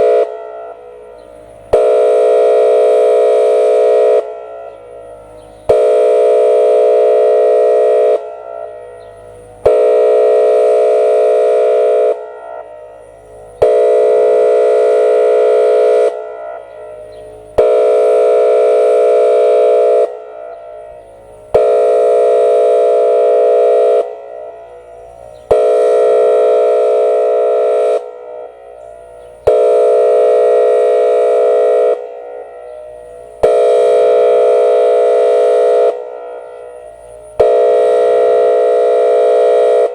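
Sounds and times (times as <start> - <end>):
siren horn tone blasts: 0.0 - 39.9.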